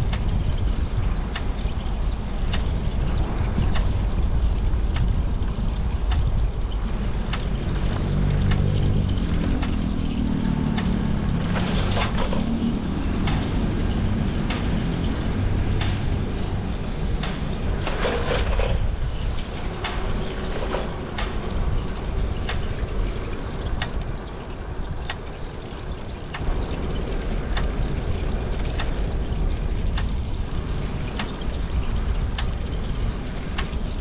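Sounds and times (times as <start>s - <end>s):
rolling road noise: 0.0s - 34.0s
wind rumbling on microphone: 0.0s - 34.0s.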